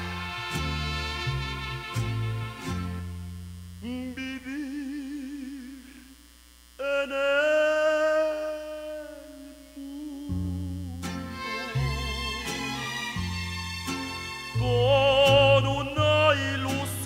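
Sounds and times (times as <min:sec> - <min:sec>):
man singing with vibrato: 0:00.0 - 0:01.6, 0:03.8 - 0:17.0.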